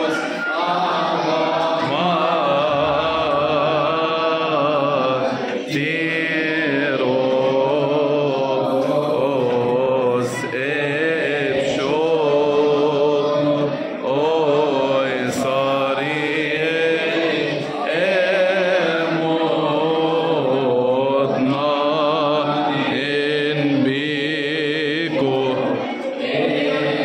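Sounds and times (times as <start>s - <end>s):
children singing in unison: 0.0s - 27.0s.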